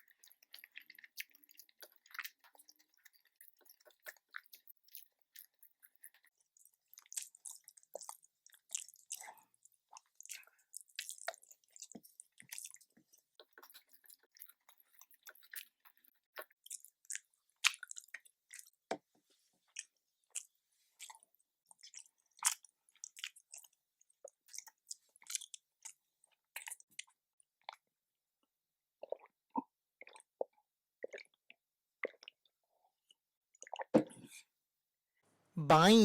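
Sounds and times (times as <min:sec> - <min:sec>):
person chewing food: 0:00.0 - 0:27.9, 0:29.0 - 0:33.9.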